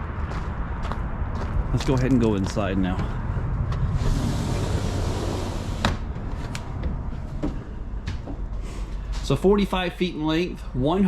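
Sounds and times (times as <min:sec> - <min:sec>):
footsteps: 0:00.0 - 0:04.7, 0:05.3 - 0:09.7
steady low rumble: 0:00.0 - 0:11.0.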